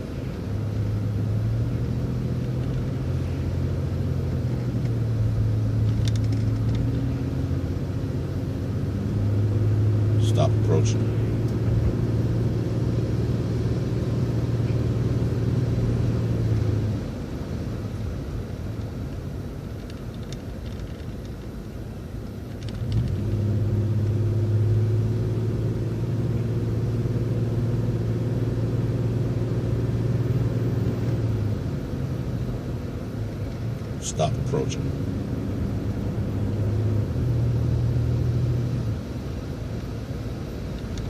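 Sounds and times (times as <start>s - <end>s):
bus drivetrain drone: 0.0s - 41.0s.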